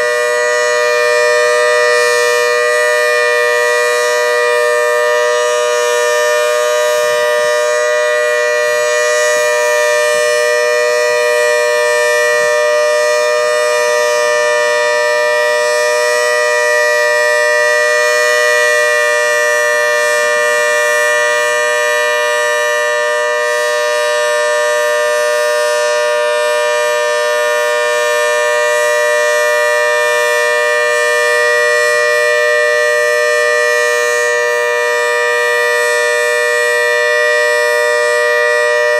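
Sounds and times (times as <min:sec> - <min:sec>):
two-tone warning siren: 0:00.0 - 0:38.9.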